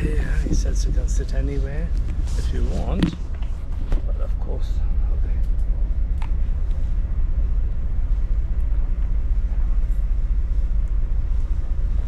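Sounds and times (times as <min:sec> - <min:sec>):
ship engines rumbling: 0:00.0 - 0:12.0.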